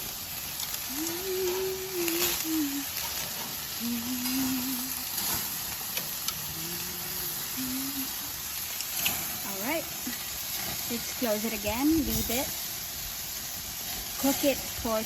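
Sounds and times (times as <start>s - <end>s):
chicken sizzling on a grill: 0.0s - 15.0s.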